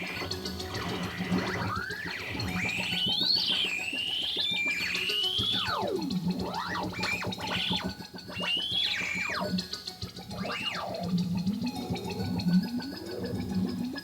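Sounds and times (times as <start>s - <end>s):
gliding synthesizer tones: 0.0s - 14.0s.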